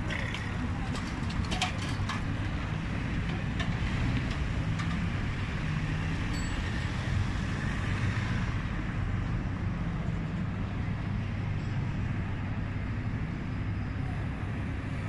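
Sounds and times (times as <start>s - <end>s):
road noise hiss: 0.0s - 15.0s
vehicle engines running: 0.0s - 15.0s.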